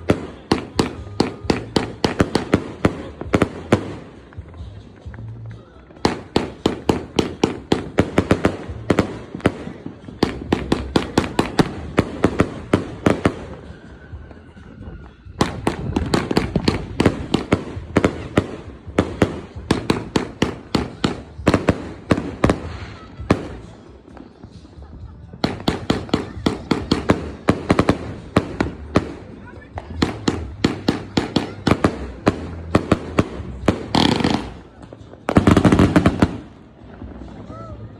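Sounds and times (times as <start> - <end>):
firework cracks and bangs: 0.0 - 37.9.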